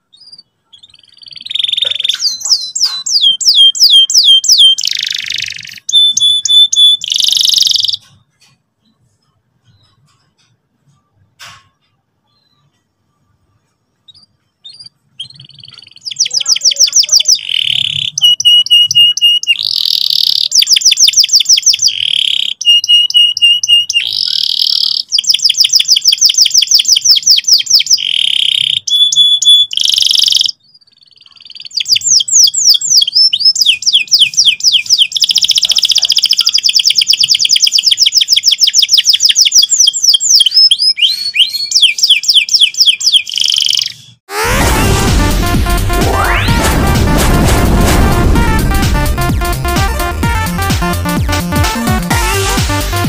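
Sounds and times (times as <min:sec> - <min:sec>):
canary singing trills: 0:00.0 - 0:44.2.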